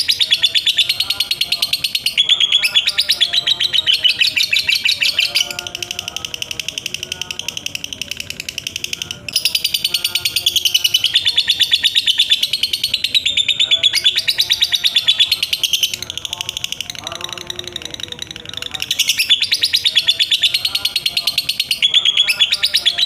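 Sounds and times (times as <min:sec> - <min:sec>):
lovebird chattering trill: 0:00.0 - 0:23.0.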